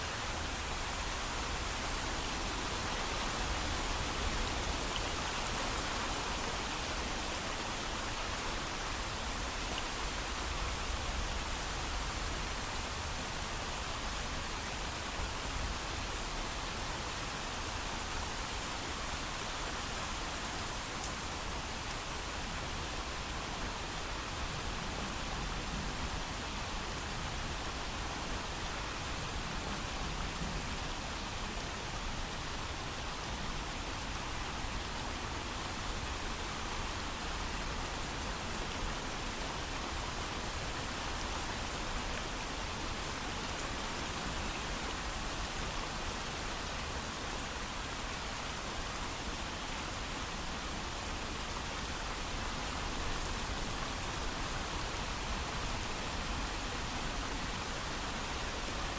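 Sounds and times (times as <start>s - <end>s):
heavy rain: 0.0s - 58.9s.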